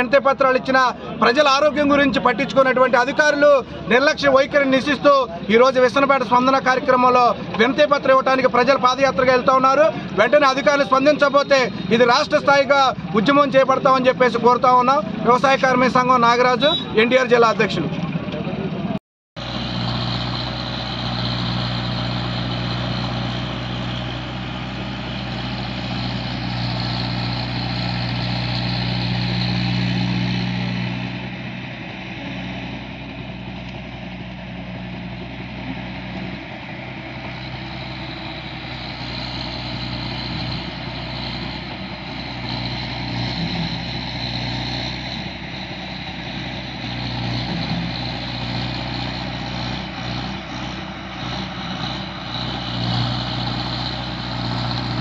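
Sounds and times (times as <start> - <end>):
engine running: 0.0 - 16.2, 17.6 - 55.0.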